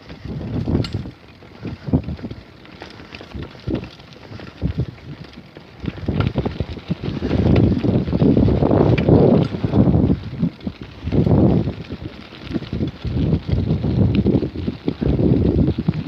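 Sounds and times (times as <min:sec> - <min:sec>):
bicycle knocks and rattles: 0:00.0 - 0:16.0
wind buffeting microphone: 0:00.0 - 0:16.0.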